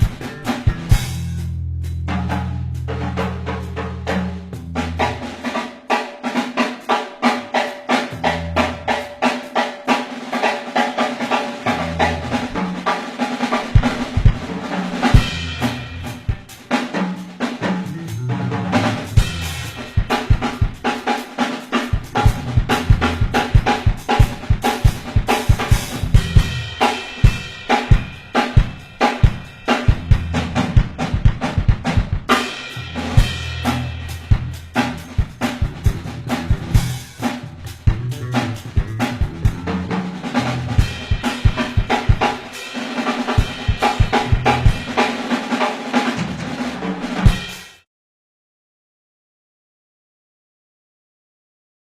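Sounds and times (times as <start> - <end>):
drum kit solo: 0.0 - 47.8.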